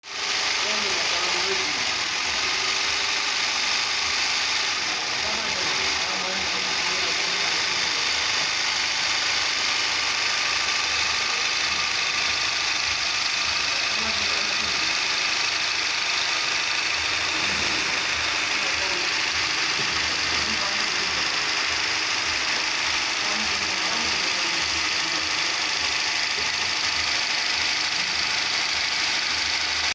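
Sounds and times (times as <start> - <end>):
sewing machine running: 0.0 - 29.9.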